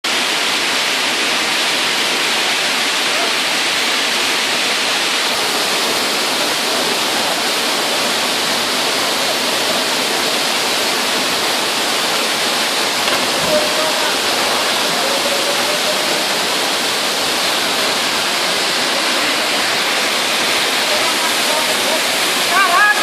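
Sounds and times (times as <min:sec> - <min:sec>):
waterfall rushing: 0:00.1 - 0:23.0.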